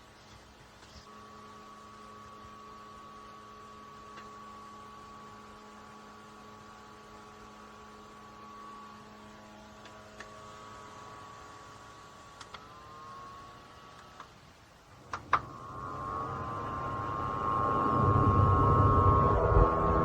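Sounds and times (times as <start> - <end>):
small fan humming: 0.0 - 20.0.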